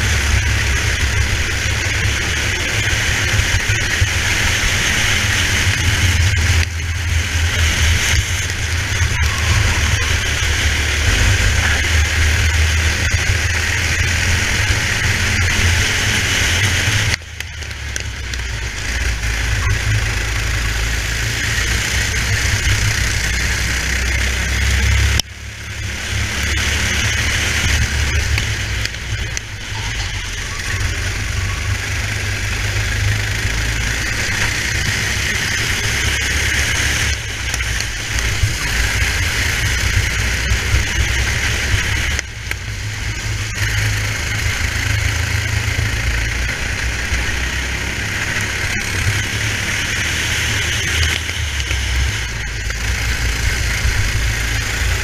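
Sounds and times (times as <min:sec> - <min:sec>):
kart engine running hard: 0:00.0 - 0:55.0.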